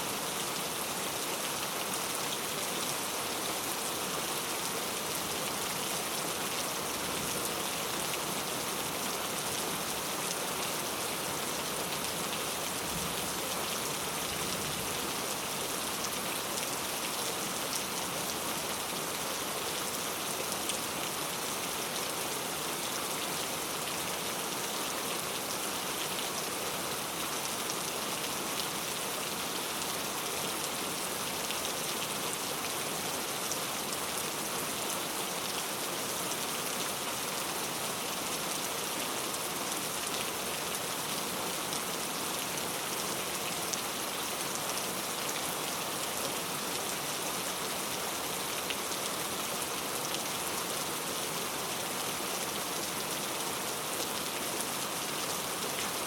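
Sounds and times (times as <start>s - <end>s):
heavy rain on leaves: 0.0s - 56.0s.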